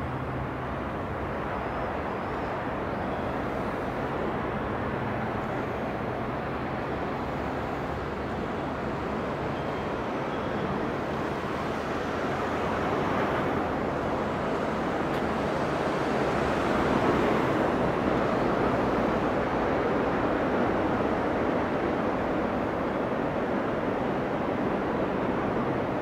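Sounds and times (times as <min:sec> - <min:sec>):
road traffic rushing: 0:00.0 - 0:26.0.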